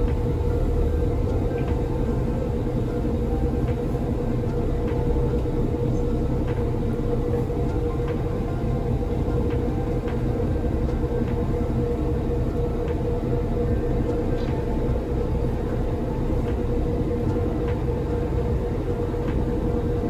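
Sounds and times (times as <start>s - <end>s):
ferry engine rumbling: 0.0s - 20.0s.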